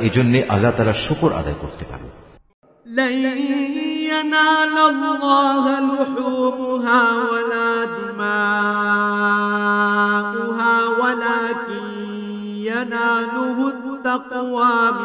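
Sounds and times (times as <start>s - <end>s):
man chanting melodically: 2.9s - 15.0s.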